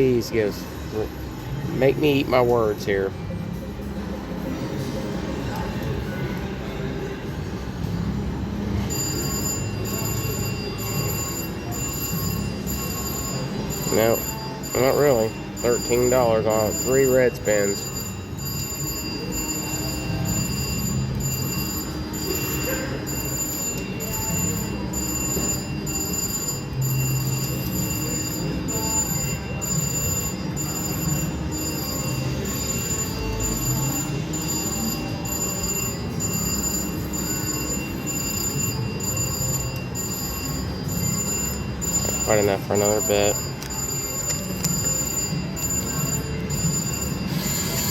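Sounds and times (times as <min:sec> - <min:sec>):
casino background noise: 0:00.0 - 0:47.9
slot machine pulsing tones: 0:07.7 - 0:47.9.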